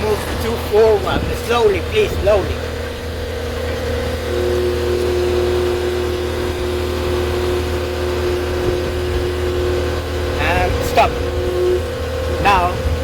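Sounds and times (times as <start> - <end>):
loader engine humming: 0.0 - 13.0
steady machine whine: 0.0 - 13.0.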